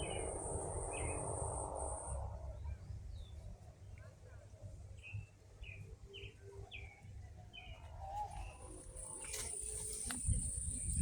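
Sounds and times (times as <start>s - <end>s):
bird chirping: 0.0s - 4.1s, 5.0s - 11.0s
low wind rumble: 0.0s - 11.0s.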